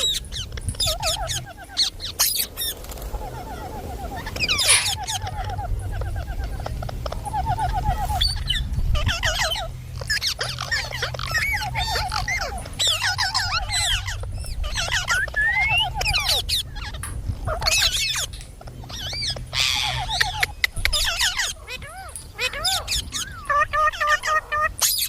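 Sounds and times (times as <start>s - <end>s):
steady low hum: 0.0s - 24.8s
parrots chattering and calling: 0.0s - 25.0s.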